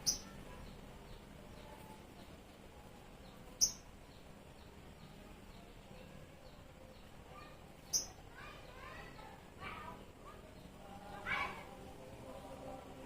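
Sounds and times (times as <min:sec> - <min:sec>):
faint rapid bird chirping: 0:00.0 - 0:11.8.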